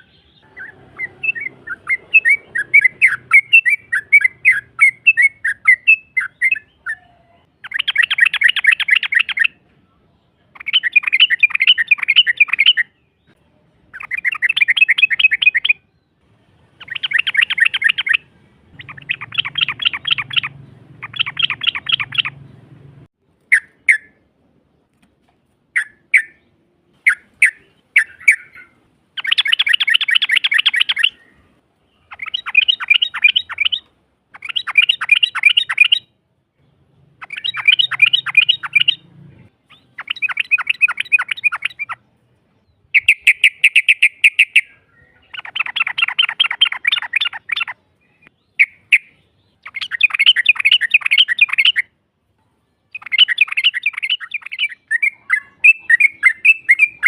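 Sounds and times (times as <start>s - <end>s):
bird chirping and trilling: 0.0s - 24.3s, 25.7s - 52.0s, 52.6s - 57.0s.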